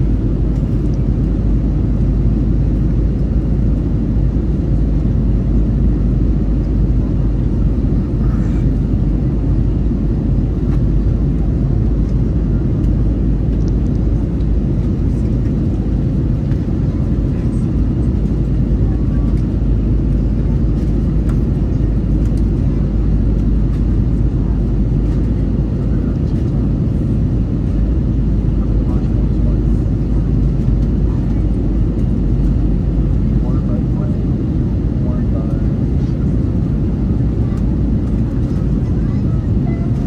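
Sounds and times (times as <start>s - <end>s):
jet engines rumbling in cabin: 0.0s - 40.0s.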